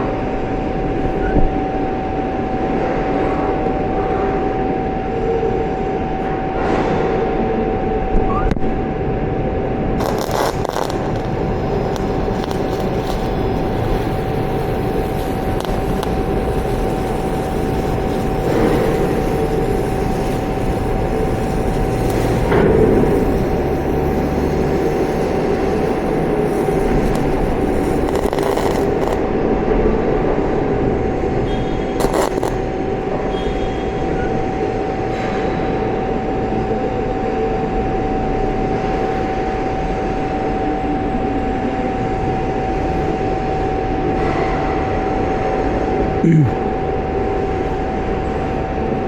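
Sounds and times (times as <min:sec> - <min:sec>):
welding arc with whine: 0:07.7 - 0:49.0.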